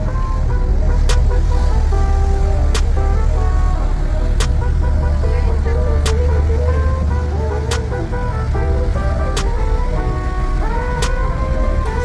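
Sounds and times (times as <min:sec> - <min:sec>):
low rumble: 0:00.0 - 0:12.0
melody of held notes: 0:00.0 - 0:12.0.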